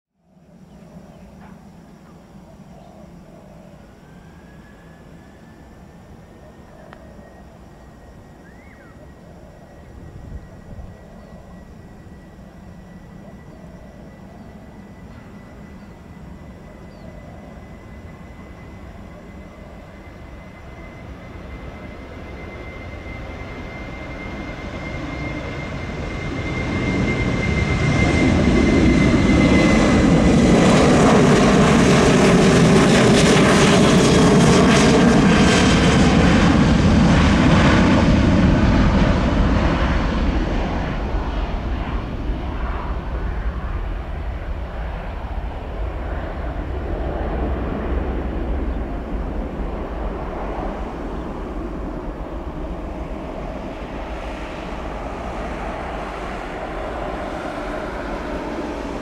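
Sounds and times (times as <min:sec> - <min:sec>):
jet engines roaring on take-off: 0:00.4 - 0:59.0.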